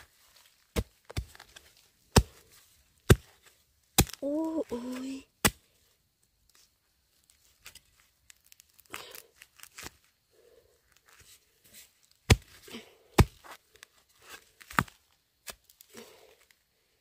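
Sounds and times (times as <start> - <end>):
bamboo husks tearing and crackling: 0.0 - 16.6.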